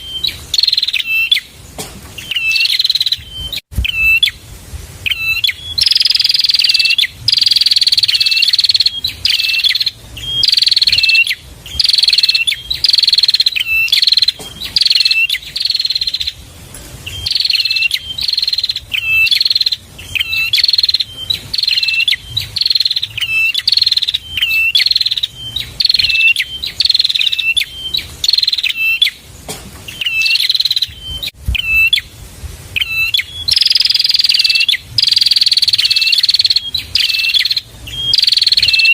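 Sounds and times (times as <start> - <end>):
bird buzzy song notes: 0.0 - 38.9.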